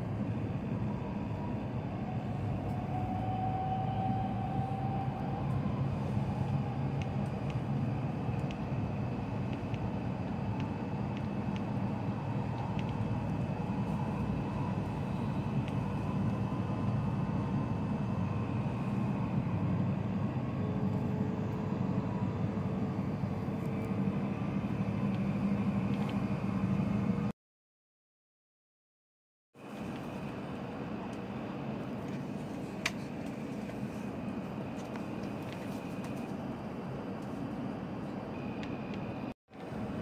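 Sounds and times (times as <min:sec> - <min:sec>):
train interior running rumble: 0:00.0 - 0:27.3, 0:29.6 - 0:40.0.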